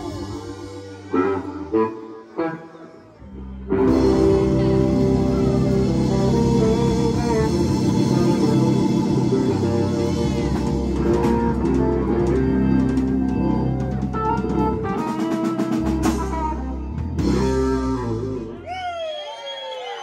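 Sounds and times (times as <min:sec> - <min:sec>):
live rock band playing: 0:00.0 - 0:18.7.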